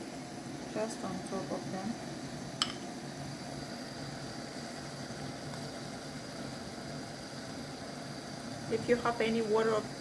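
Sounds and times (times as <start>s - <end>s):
low kitchen hum: 0.0s - 10.0s
pan boiling: 0.0s - 10.0s.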